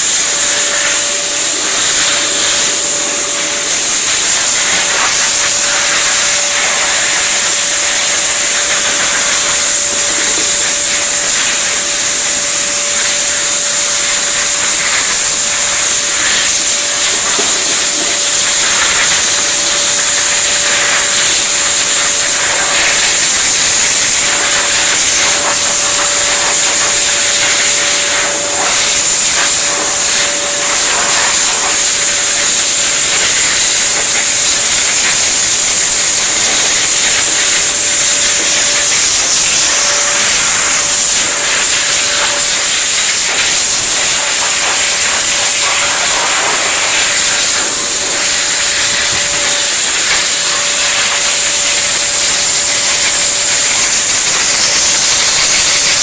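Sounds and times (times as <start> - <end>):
blow dryer running: 0.0 - 56.0.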